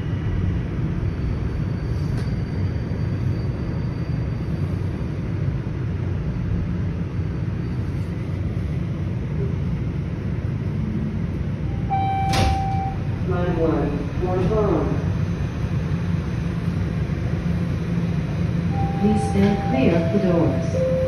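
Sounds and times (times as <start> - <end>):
subway train low rumble and hum: 0.0 - 21.0.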